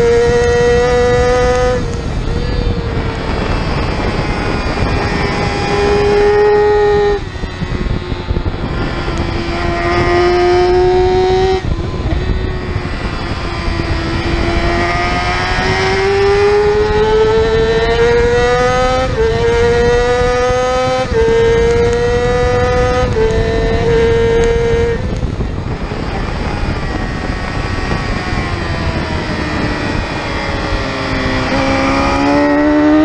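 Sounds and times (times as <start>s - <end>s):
motorcycle engine at racing speed: 0.0s - 33.0s
motorcycle upshifts: 0.0s - 33.0s
wind rushing: 0.0s - 33.0s.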